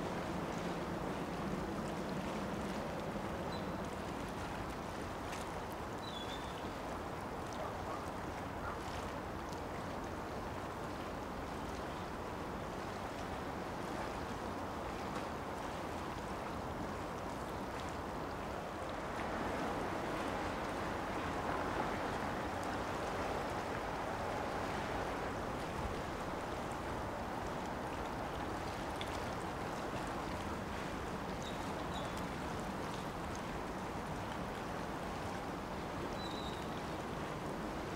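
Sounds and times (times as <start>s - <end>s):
rushing water: 0.0s - 37.9s
wind: 0.0s - 37.9s.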